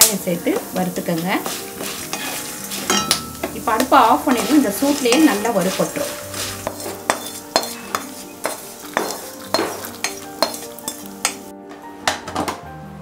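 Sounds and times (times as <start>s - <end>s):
spatula scraping in pan: 0.2s - 11.5s.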